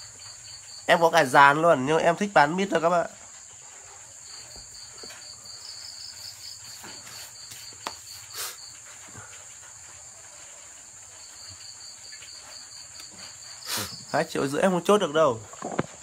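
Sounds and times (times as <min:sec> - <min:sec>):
crickets trilling: 0:00.0 - 0:16.0
pulsed cricket chirp: 0:00.0 - 0:16.0.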